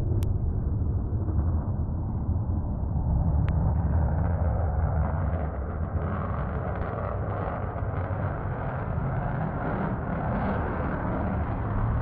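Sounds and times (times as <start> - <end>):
fighter jet flying overhead: 0.0 - 12.0.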